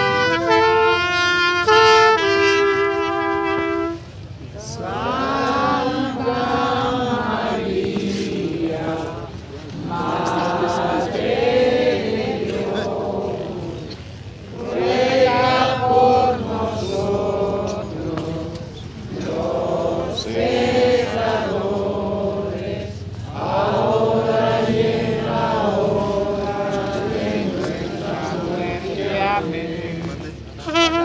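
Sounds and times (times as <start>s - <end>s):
crowd singing a hymn: 0.0s - 31.0s.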